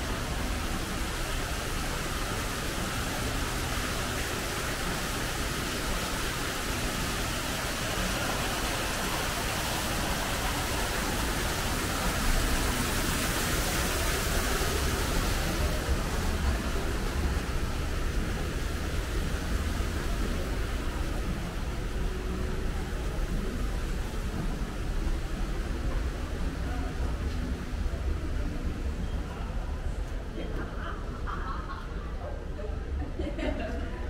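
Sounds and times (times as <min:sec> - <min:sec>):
waterfall splashing into pool: 0:00.0 - 0:27.6.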